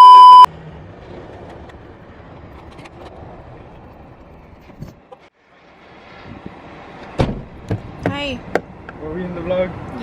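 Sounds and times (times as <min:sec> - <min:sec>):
motor vehicle running: 0:00.5 - 0:10.0.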